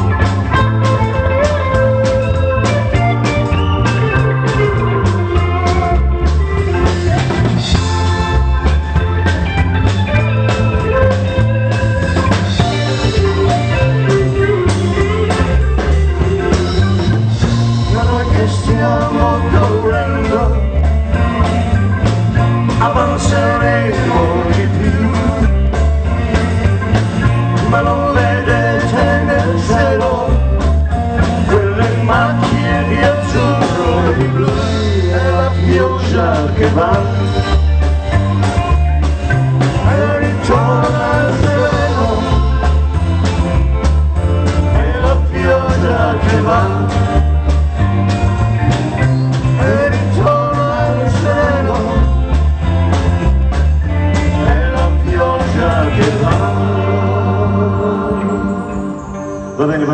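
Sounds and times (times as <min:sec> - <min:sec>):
live pop band playing: 0:00.0 - 0:59.9.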